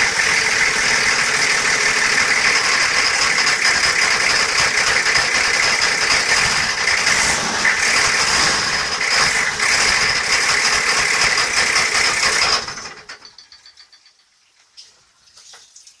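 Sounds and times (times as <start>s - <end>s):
diesel engine idling: 0.0s - 13.4s.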